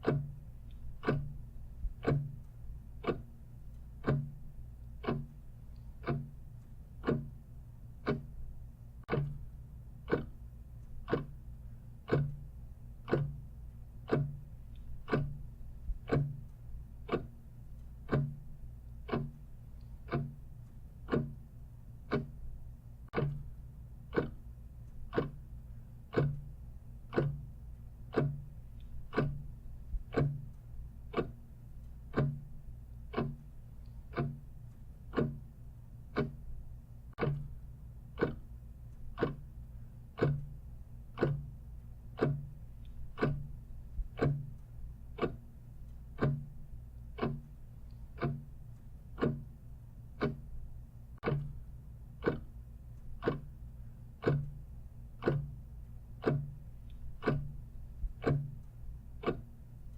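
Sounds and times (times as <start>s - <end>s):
clock ticking: 0.0s - 59.9s
faint low hum: 0.0s - 59.9s.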